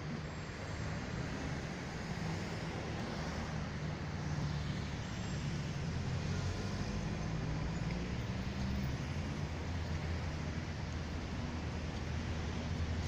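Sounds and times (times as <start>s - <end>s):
city ambience hiss: 0.0s - 13.0s
street traffic rumble: 0.0s - 13.0s.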